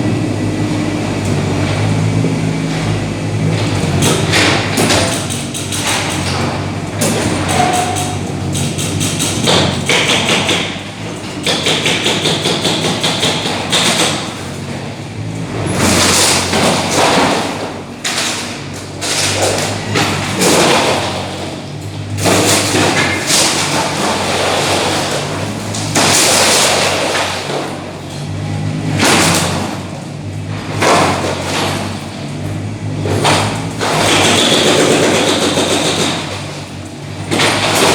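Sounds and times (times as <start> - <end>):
diesel engine running: 0.0 - 37.9
demolition thumps and crashes: 1.5 - 37.9.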